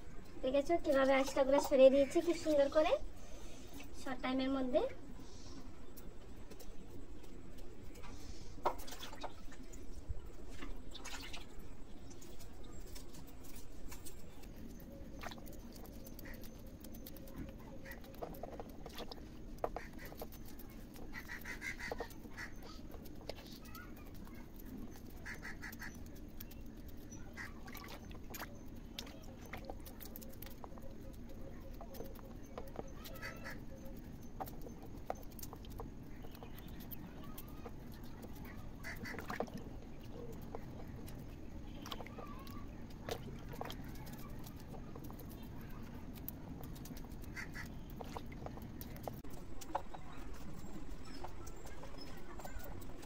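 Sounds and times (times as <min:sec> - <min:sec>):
small water splashes: 0:08.6 - 0:53.0.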